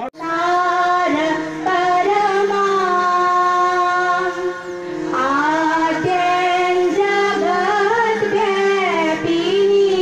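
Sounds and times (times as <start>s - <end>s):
slow song with held notes: 0.0s - 10.0s.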